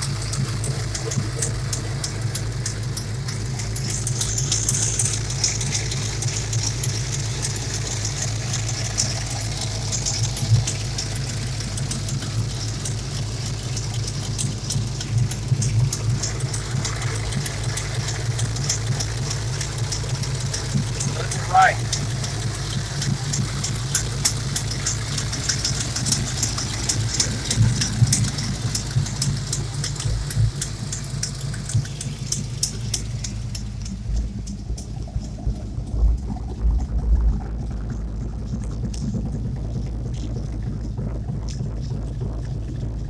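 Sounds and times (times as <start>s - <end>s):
fast light ticking: 0.0s - 36.5s
engine idling: 0.0s - 43.0s.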